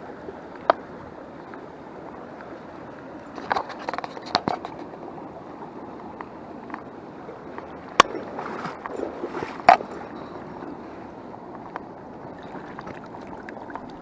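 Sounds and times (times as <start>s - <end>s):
small stream running: 0.0s - 14.0s.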